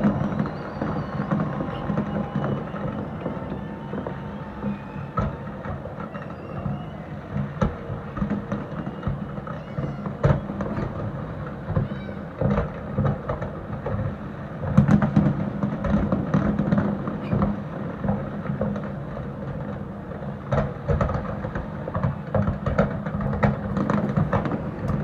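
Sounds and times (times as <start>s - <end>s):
fireworks booms and crackles: 0.0s - 25.0s.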